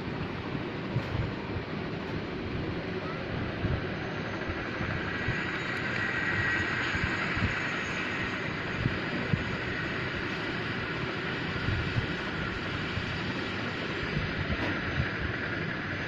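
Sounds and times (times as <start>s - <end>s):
aircraft engine and rolling rumble: 0.0s - 16.0s
faint whine: 0.0s - 16.0s.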